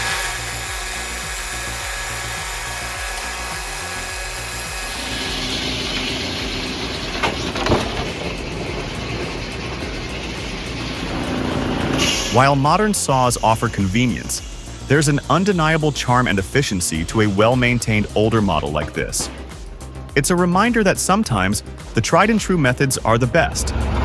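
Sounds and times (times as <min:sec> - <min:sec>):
saw blade cutting wood: 0:00.0 - 0:20.5
circular saw running: 0:00.0 - 0:24.0.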